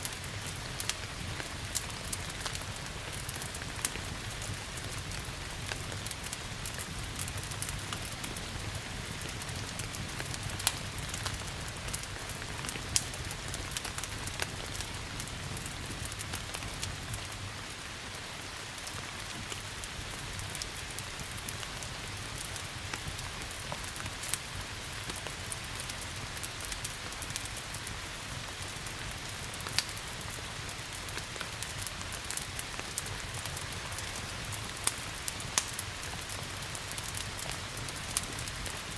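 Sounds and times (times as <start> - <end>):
steady rain hiss: 0.0 - 38.9
wood fire crackling and popping: 0.0 - 38.9.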